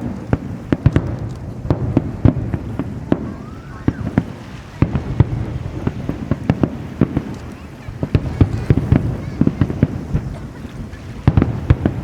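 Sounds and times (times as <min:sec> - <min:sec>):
fireworks bangs and cracks: 0:00.0 - 0:12.0
low rumble of fireworks: 0:00.0 - 0:12.0.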